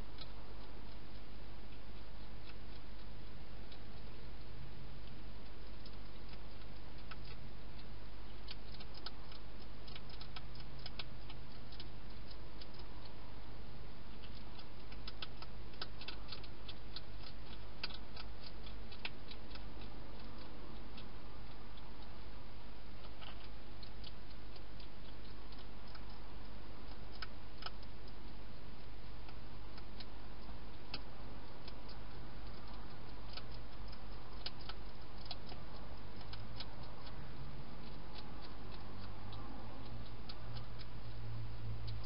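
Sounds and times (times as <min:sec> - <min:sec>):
background hiss: 0:00.0 - 0:42.0
hedgehog crunching food: 0:00.0 - 0:42.0
low hum: 0:00.0 - 0:42.0.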